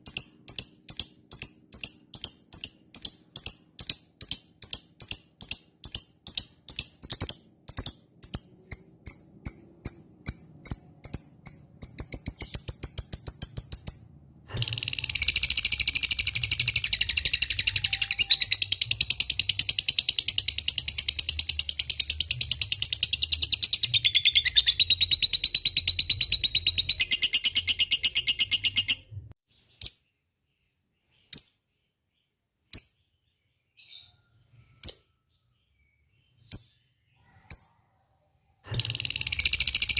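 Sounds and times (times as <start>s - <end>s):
lovebird chirping and trilling: 0.0s - 31.9s, 38.7s - 39.9s.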